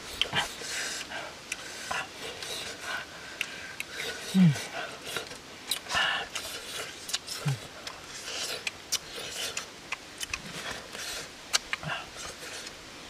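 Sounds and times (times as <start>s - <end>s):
clicks and crackling of eating: 0.1s - 12.8s.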